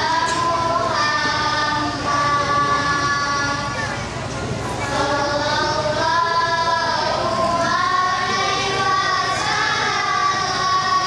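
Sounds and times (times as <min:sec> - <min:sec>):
girls singing devotional song: 0:00.0 - 0:11.0.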